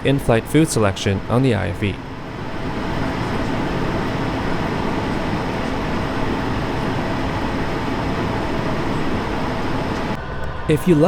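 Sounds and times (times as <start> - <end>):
airplane cabin roar: 0.0 - 11.0
faint steady hum: 0.0 - 11.0.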